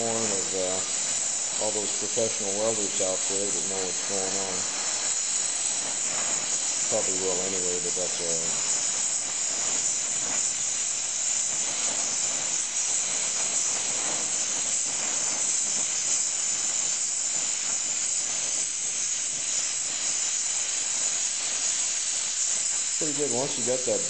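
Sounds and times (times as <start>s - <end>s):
welding torch flame hissing: 0.0s - 24.0s.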